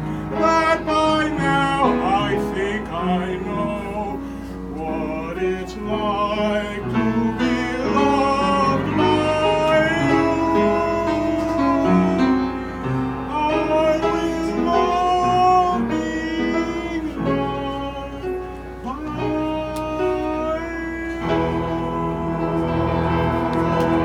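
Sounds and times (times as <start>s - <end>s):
instrumental accompaniment: 0.0s - 24.0s
man singing: 0.0s - 24.0s.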